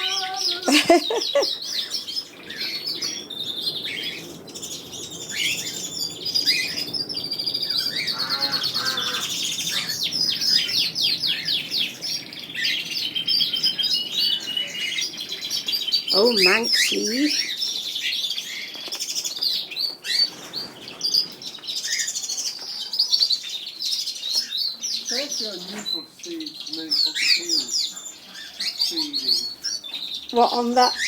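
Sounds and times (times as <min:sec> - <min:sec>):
birds chirping and singing: 0:00.0 - 0:31.0.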